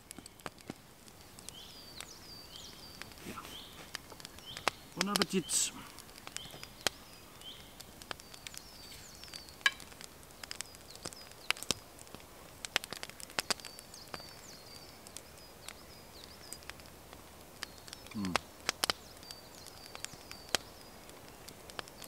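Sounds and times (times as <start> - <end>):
faint bird chirps: 1.4 - 11.9, 13.3 - 16.9, 17.6 - 22.0.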